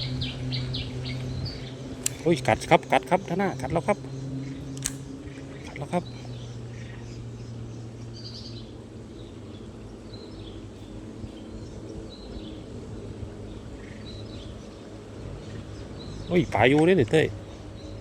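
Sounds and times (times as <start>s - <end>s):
bird chirps: 0.0s - 18.0s
steady low hum: 0.0s - 18.0s.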